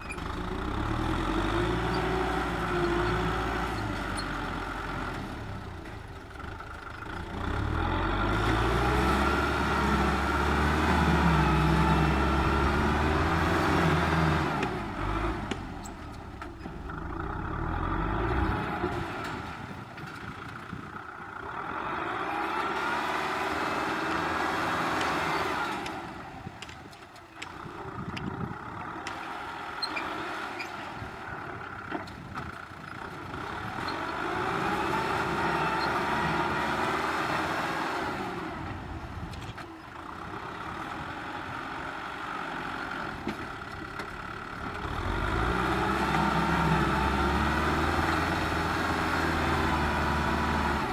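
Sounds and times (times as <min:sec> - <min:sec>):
tractor diesel engine: 0:00.0 - 0:50.9.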